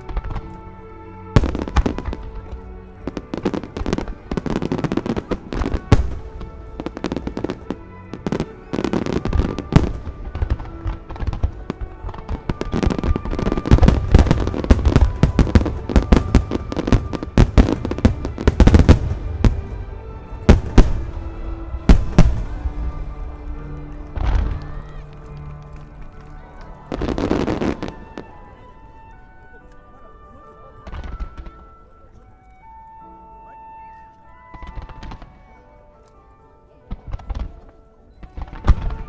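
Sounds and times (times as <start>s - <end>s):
fireworks bangs and crackles: 0.0s - 29.1s, 30.8s - 31.8s, 34.5s - 35.6s, 36.9s - 39.0s
music playing: 0.0s - 39.0s.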